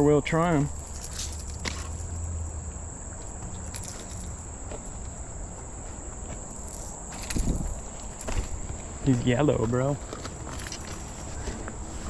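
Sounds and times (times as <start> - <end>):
insect chorus trilling: 0.0 - 12.0
low outdoor rumble: 0.0 - 12.0.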